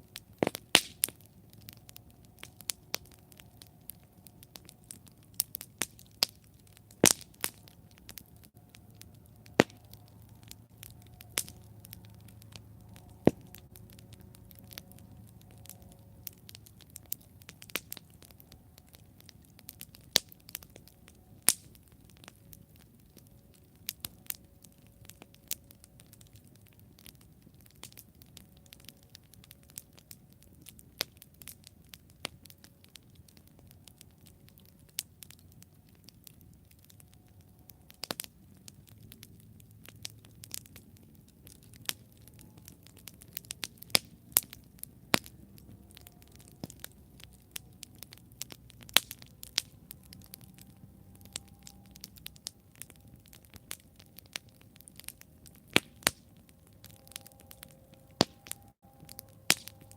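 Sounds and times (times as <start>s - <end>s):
campfire crackling and popping: 0.0s - 59.9s
faint low rumble: 0.0s - 59.9s.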